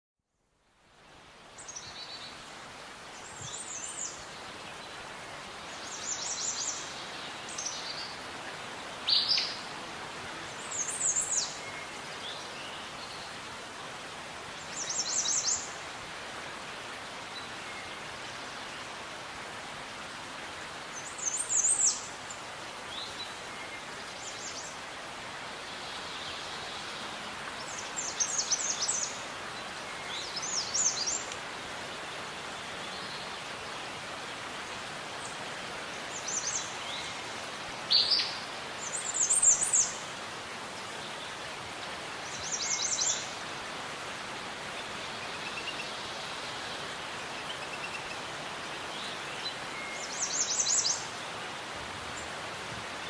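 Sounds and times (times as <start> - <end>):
background hiss: 0.3 - 53.0.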